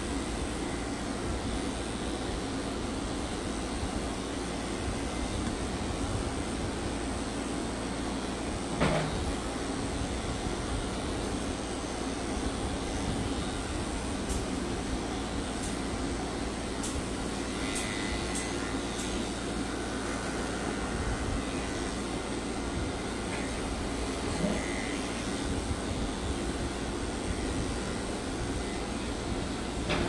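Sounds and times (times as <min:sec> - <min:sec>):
pet grooming motor whirring: 0:00.0 - 0:30.0.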